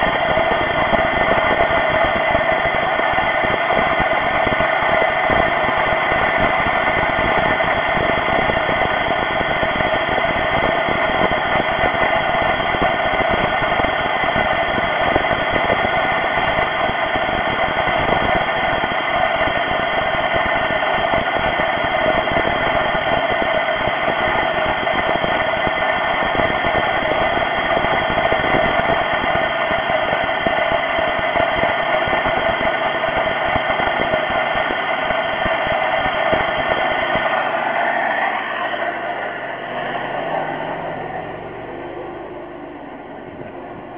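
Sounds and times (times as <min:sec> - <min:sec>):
car engine running: 0:00.0 - 0:43.9
supercharger whine: 0:00.0 - 0:43.9.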